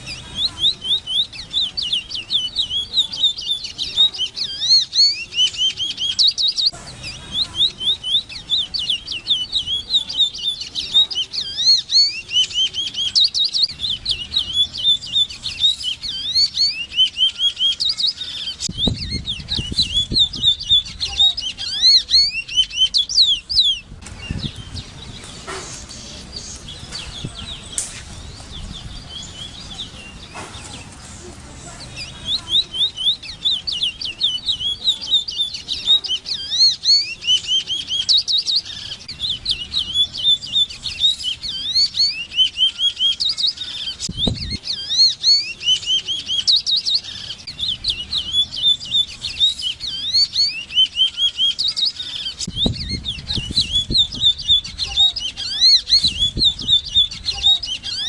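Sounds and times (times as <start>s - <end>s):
bird singing whistled notes: 0.0s - 31.0s, 31.6s - 58.0s.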